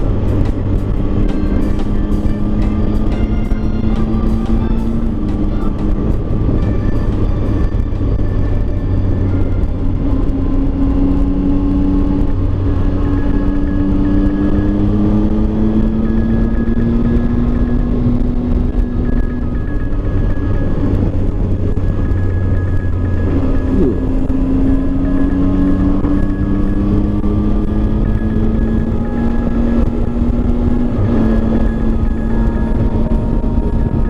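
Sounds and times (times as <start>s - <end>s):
motorcycle engine: 0.0s - 34.0s
wind rush: 0.0s - 34.0s.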